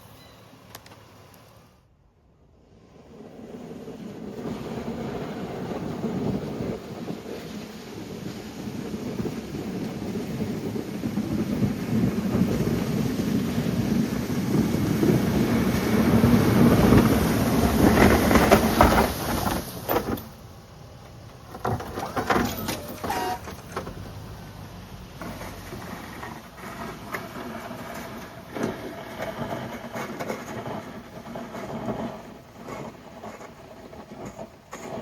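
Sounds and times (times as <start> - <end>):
snow-clearing machine scraping: 2.9 - 20.4, 21.4 - 35.0.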